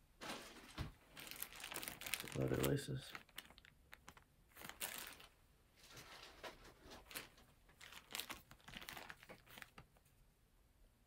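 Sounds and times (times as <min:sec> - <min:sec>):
packaging crinkling: 0:00.2 - 0:10.1.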